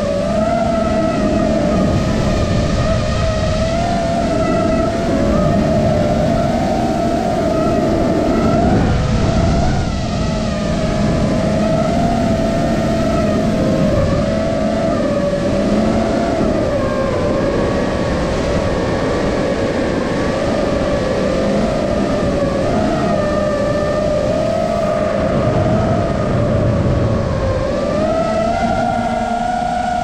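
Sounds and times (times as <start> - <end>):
drone motors whining: 0.0 - 30.0
rush of prop wash and wind: 0.0 - 30.0.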